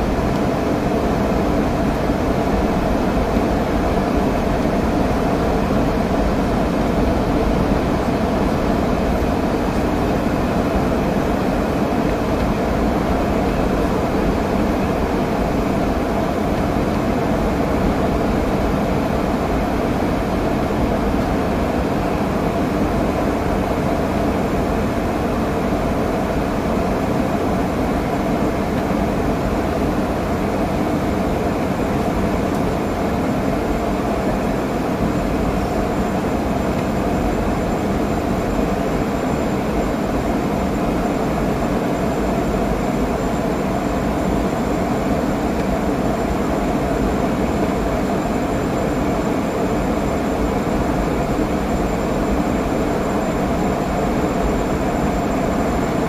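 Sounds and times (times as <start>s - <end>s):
airplane cabin roar: 0.0s - 56.0s
faint high whine: 0.0s - 56.0s.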